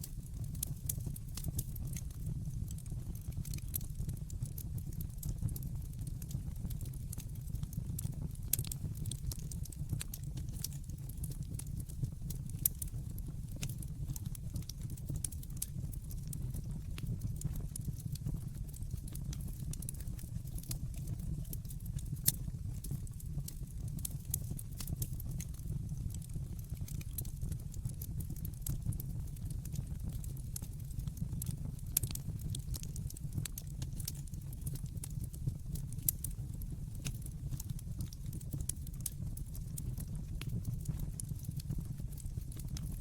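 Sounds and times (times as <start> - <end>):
low rumble of flames: 0.0 - 43.0
wood fire crackling: 0.0 - 43.0.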